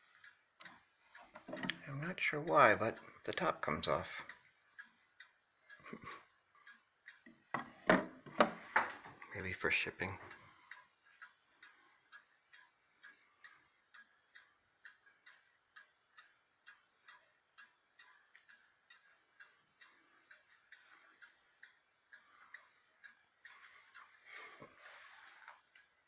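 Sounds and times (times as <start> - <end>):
clock ticking faintly: 0.0 - 26.0.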